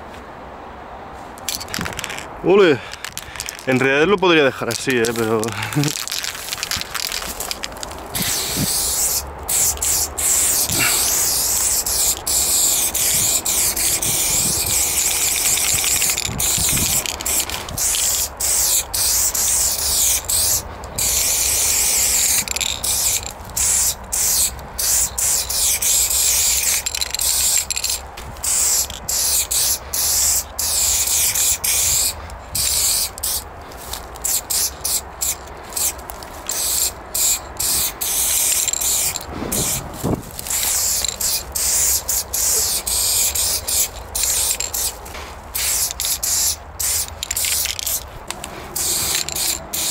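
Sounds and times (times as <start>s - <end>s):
spray paint can hissing: 1.4s - 4.0s, 4.7s - 49.9s.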